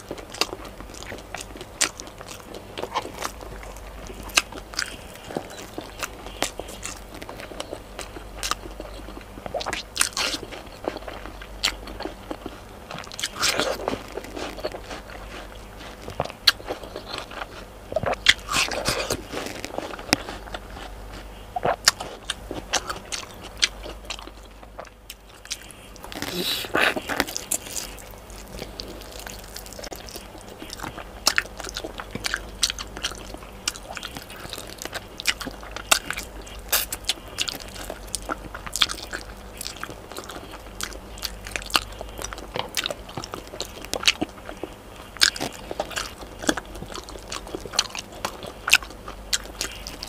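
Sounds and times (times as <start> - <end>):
chewing and wet mouth smacks: 0.0 - 50.0.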